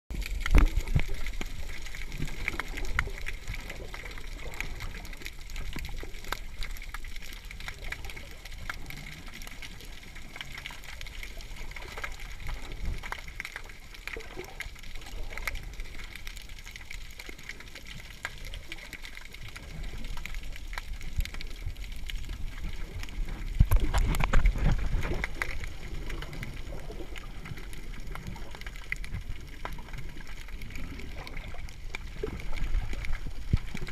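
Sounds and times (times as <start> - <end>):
muffled underwater water wash: 0.1 - 33.9
small underwater clicks and crackles: 0.1 - 33.9.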